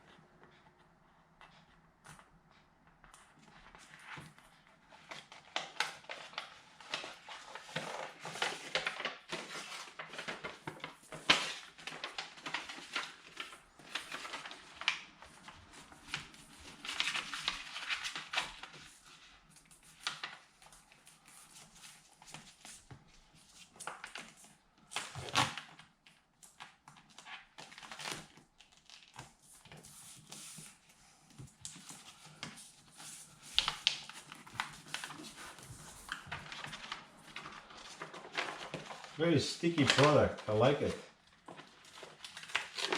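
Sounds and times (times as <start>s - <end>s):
paper crinkling and rustling: 3.0s - 42.9s.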